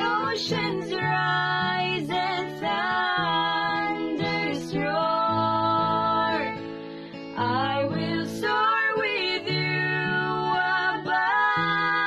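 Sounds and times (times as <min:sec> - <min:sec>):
woman singing: 0:00.0 - 0:06.7, 0:07.4 - 0:12.0
acoustic guitar: 0:00.0 - 0:12.0.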